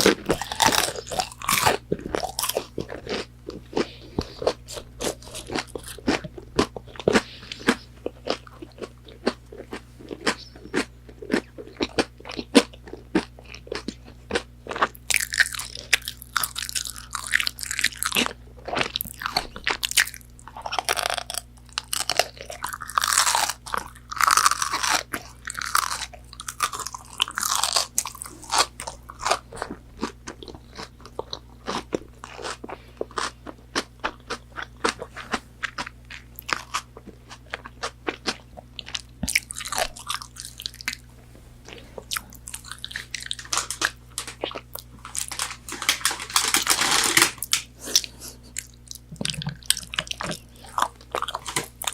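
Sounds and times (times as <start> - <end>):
crunchy biting and chewing: 0.0 - 51.9.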